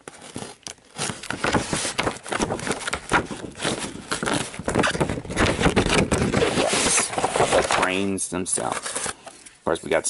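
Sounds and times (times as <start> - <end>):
plastic packaging rustling: 0.0 - 9.5.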